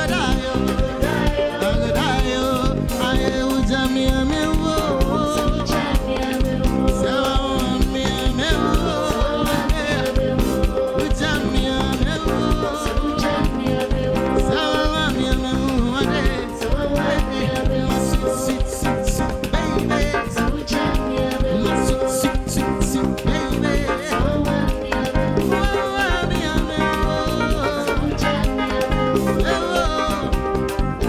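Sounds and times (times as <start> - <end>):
live band playing: 0.0 - 31.0
man singing: 0.0 - 31.0.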